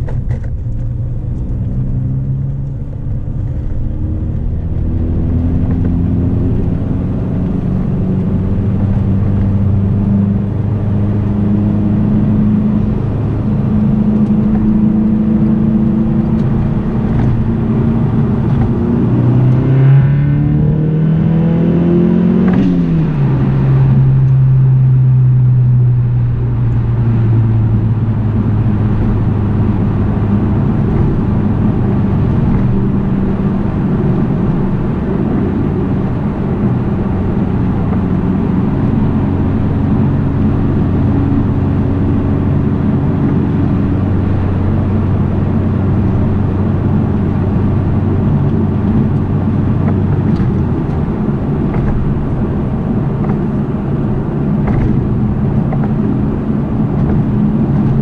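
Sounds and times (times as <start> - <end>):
car engine heard from inside: 0.0 - 58.0.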